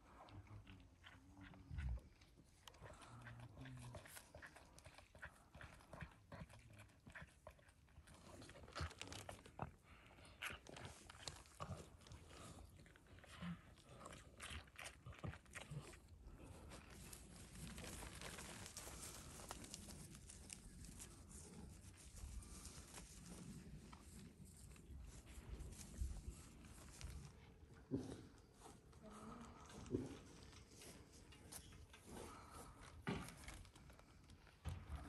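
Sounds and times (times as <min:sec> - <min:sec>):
calf suckling: 0:00.0 - 0:35.0.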